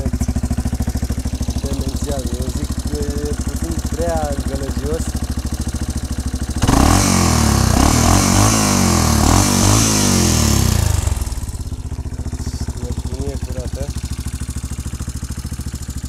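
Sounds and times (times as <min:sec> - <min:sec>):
engine idling and revving: 0:00.0 - 0:16.0.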